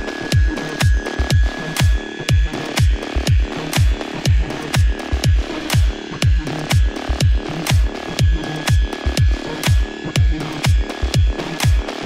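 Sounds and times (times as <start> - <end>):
deep kick drum: 0.0 - 12.0
electronic dance music: 0.0 - 12.0.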